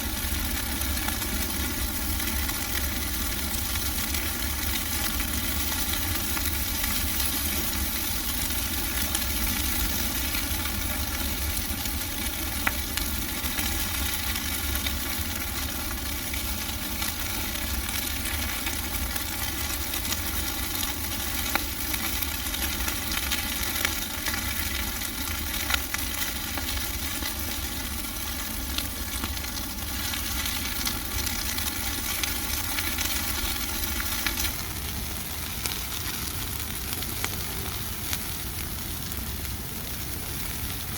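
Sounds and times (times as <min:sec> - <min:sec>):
bonfire hissing: 0:00.0 - 0:40.9
fire crackles and pops: 0:00.0 - 0:40.9.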